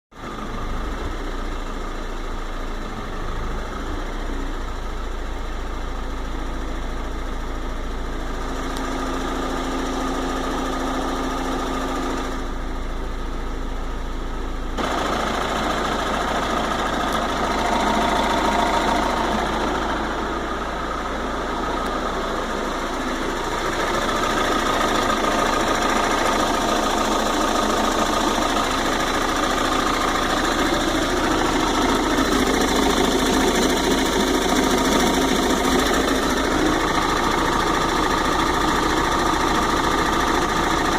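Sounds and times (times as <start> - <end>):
diesel engine running: 0.2 - 40.9.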